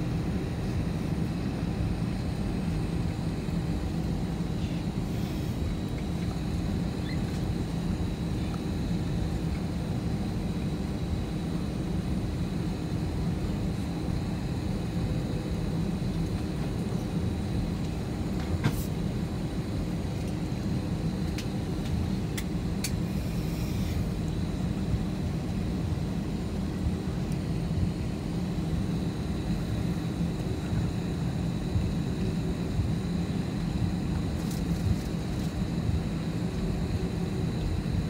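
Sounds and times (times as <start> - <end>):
faint high whine: 0.0 - 38.0
jet engines rumbling in cabin: 0.0 - 38.0.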